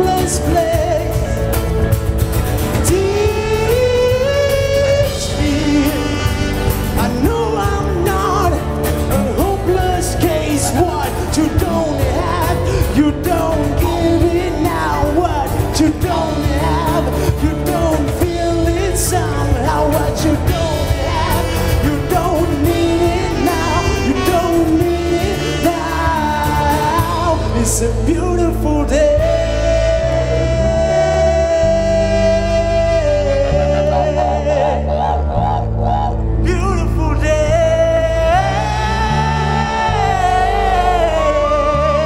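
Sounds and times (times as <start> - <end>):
live band music: 0.0 - 42.0
melodic lead bending in pitch: 0.2 - 42.0.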